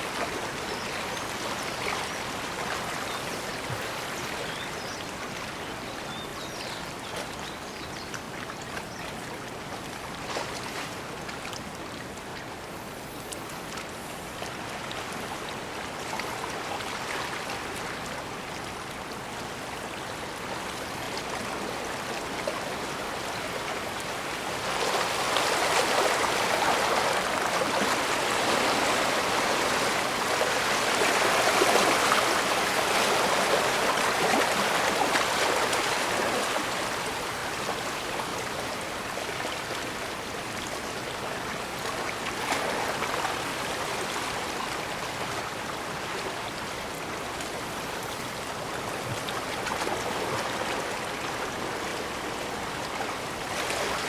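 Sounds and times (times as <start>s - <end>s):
water rushing and splashing: 0.0s - 54.0s.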